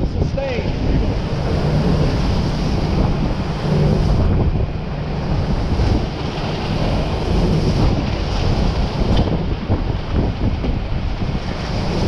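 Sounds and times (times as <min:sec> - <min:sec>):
driving rain: 0:00.0 - 0:12.0
wind blasting across microphone: 0:00.0 - 0:12.0.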